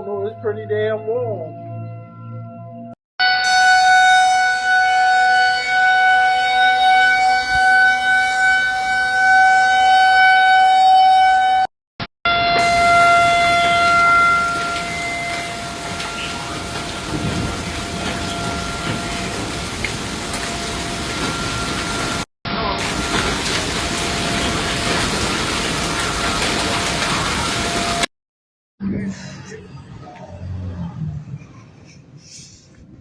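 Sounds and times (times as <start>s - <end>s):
outdoor warning siren: 0.0s - 11.7s, 12.3s - 28.1s.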